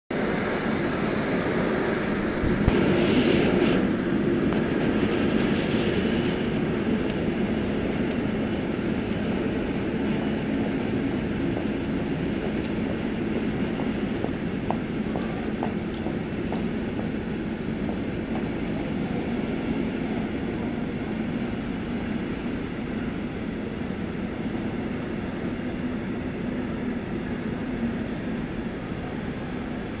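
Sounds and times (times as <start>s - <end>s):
freight train rumbling on rails: 0.1s - 30.0s.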